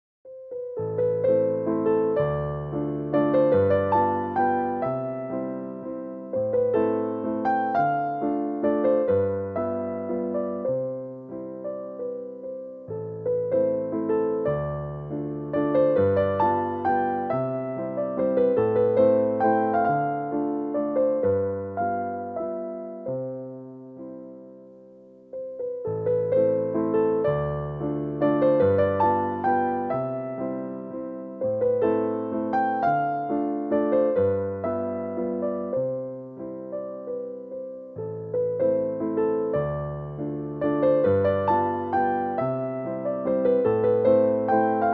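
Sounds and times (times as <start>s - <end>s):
gentle piano tune: 0.3s - 44.9s.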